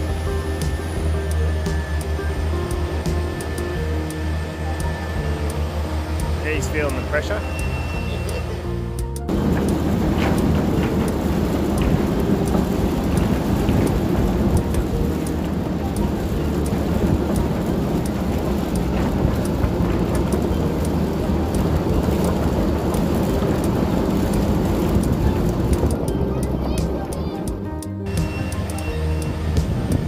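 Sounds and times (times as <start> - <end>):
harvester machinery hum: 0.0 - 30.0.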